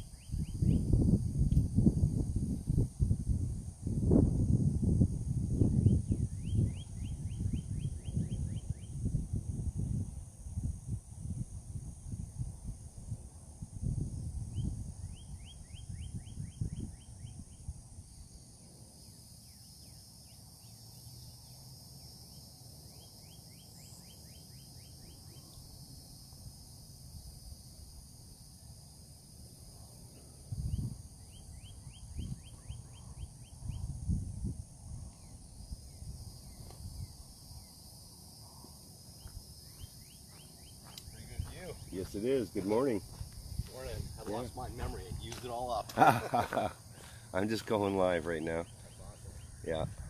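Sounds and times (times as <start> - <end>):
insects buzzing: 0.0 - 50.0.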